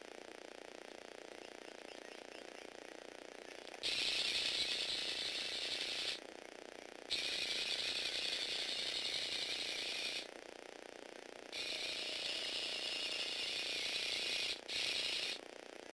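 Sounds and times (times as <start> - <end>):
electric motor and gears whirring: 0.0 - 15.9
quiet hum: 0.0 - 15.9.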